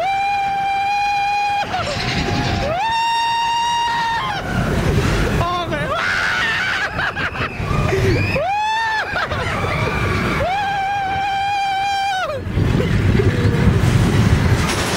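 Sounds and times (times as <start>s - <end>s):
riders screaming: 0.0s - 13.9s
roller coaster train rumble: 0.0s - 14.9s.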